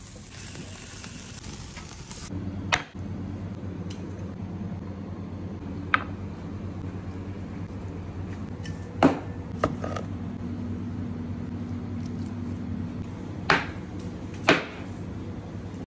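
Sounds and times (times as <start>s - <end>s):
extractor hood fan hum: 0.0s - 15.9s.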